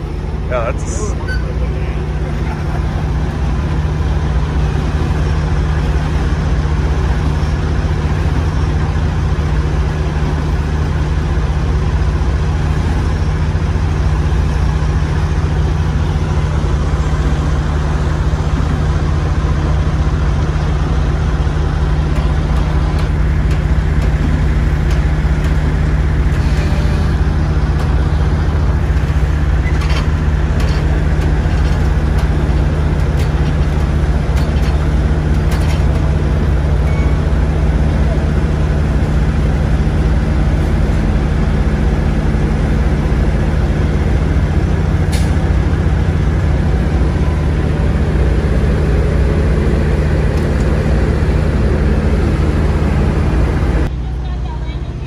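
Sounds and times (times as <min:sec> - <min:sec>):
diesel truck engine droning: 0:00.0 - 0:55.0.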